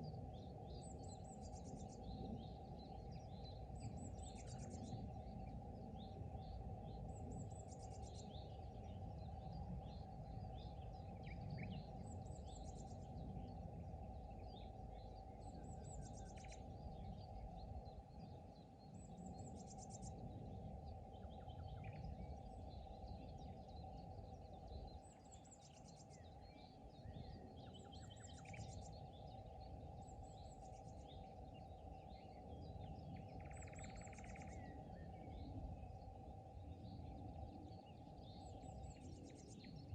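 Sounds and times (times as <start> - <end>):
small birds singing: 0.0 - 39.9.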